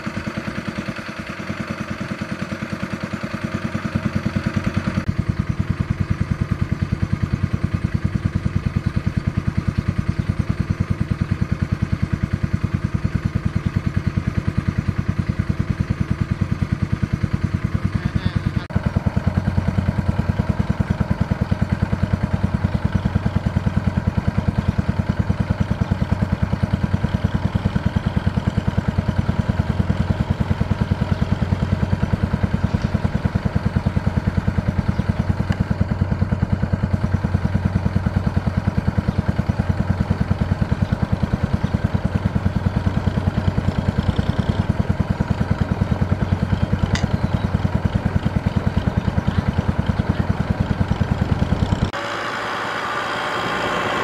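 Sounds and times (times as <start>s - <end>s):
tractor diesel engine chugging: 0.0s - 54.0s.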